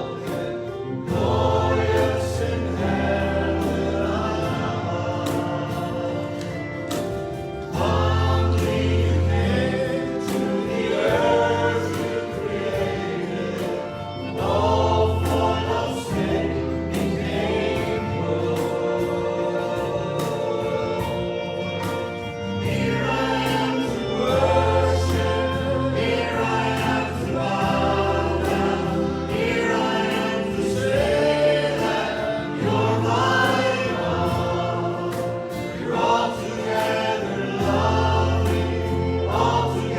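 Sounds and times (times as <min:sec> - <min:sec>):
congregation singing: 0:00.0 - 0:39.9
musical accompaniment with bass and beat: 0:00.0 - 0:39.9.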